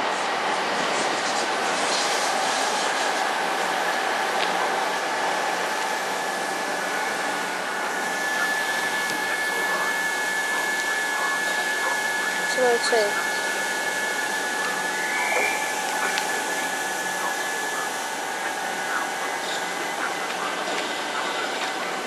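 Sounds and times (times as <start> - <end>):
electric train whirring: 0.0 - 22.0
high whines: 1.7 - 22.0.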